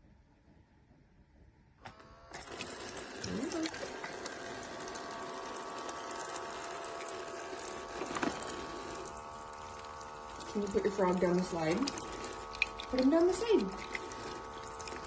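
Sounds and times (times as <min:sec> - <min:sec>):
toy pump whirring: 0:01.8 - 0:15.0
water running into basin: 0:02.3 - 0:15.0.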